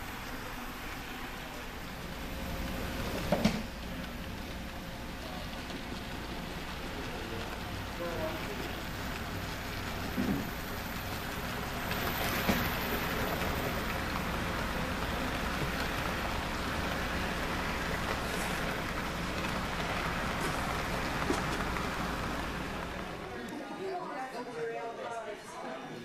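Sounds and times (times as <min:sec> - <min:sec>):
model train wheels on rails: 0:00.0 - 0:23.5.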